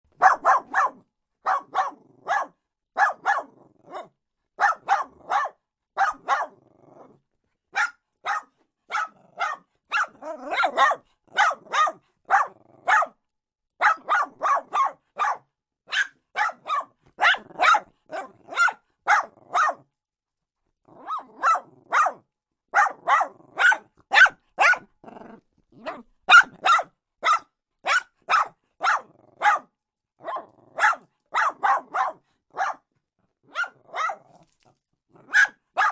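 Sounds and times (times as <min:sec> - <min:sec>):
dog barking: 0:00.1 - 0:06.6, 0:07.7 - 0:13.2, 0:13.8 - 0:19.9, 0:20.9 - 0:25.0, 0:25.8 - 0:34.5, 0:35.2 - 0:35.9.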